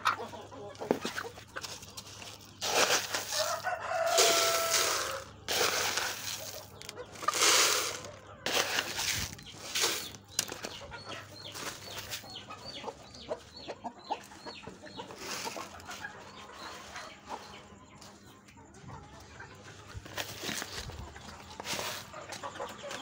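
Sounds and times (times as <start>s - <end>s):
chickens clucking and calling: 0.0s - 23.0s.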